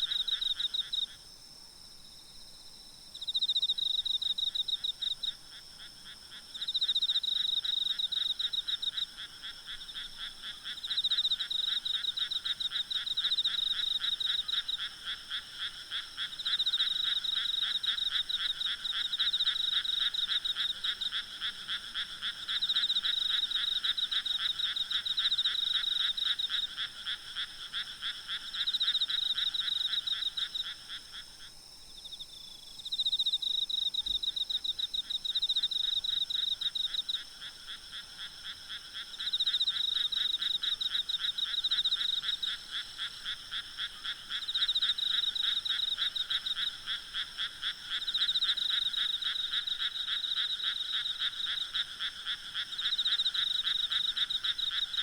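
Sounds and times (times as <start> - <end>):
frogs croaking: 0.0 - 1.3, 3.1 - 55.0
insects trilling: 3.2 - 55.0.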